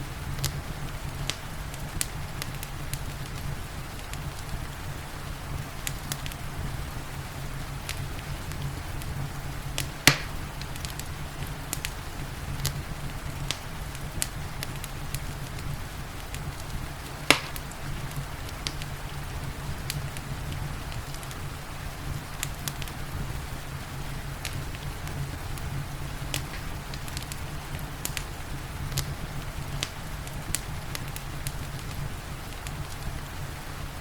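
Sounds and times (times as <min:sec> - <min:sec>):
rain hissing: 0:00.0 - 0:34.0
wood fire crackling: 0:00.0 - 0:34.0.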